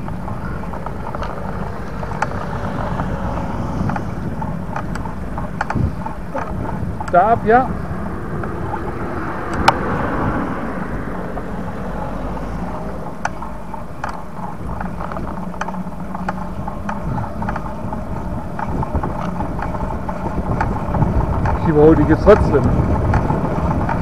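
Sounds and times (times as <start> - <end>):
bicycle tyre and wind rumble: 0.0 - 24.0.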